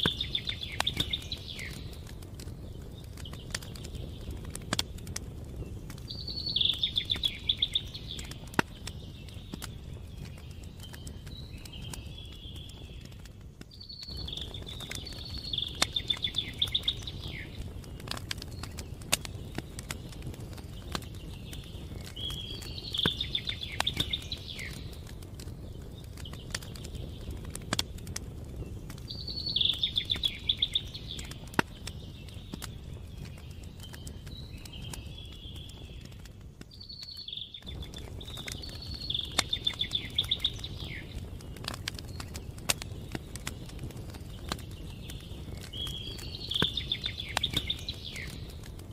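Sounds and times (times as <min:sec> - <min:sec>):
songbird singing with trill: 0:00.0 - 0:28.0, 0:28.6 - 0:48.8
campfire crackling and popping: 0:00.0 - 0:48.9.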